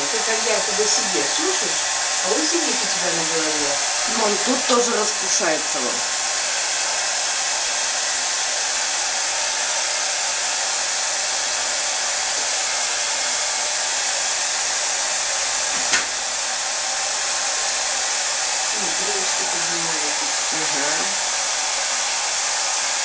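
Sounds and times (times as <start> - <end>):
hair dryer blowing: 0.0 - 23.0.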